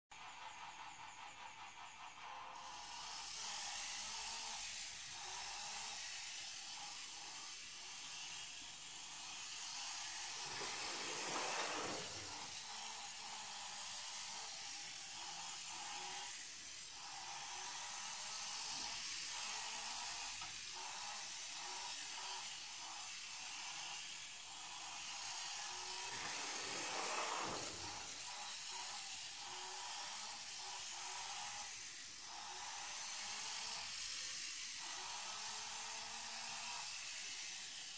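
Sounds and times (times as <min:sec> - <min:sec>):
toy car electric motor whirring: 0:00.1 - 0:37.9.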